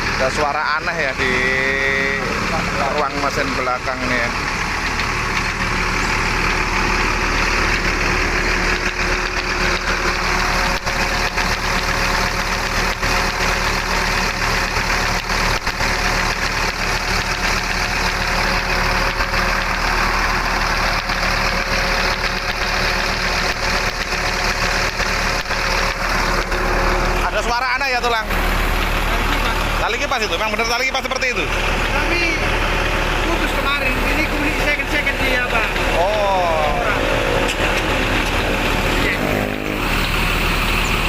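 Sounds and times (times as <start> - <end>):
bus engine idling: 0.0 - 41.0
fan belt tone: 0.0 - 41.0.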